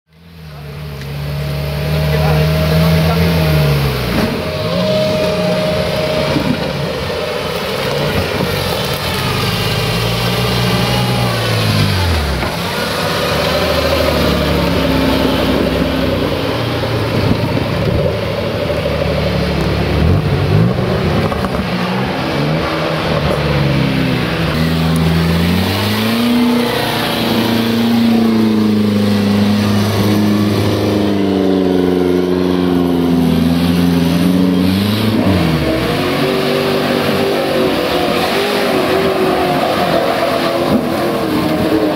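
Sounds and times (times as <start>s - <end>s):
off-road vehicle engines revving: 0.1s - 41.9s.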